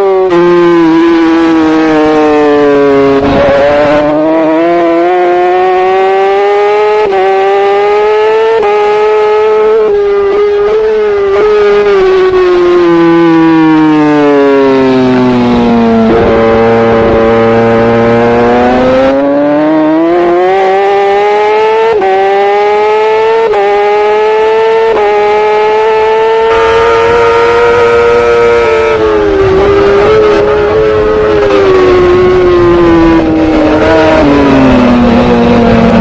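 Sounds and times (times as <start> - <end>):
superbike engine revving: 0.0 - 36.0.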